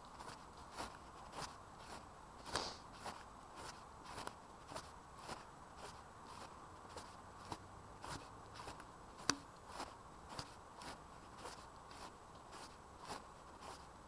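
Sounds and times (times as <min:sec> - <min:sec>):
person walking footsteps: 0:00.0 - 0:14.0.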